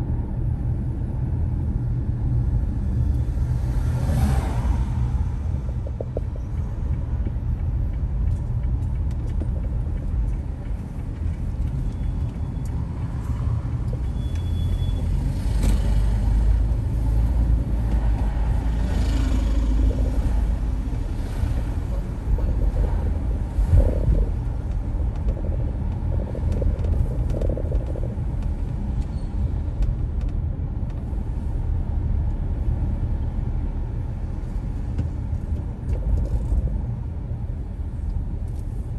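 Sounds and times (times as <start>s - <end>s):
car engine and road noise: 0.0s - 38.9s
passing traffic: 0.0s - 38.9s.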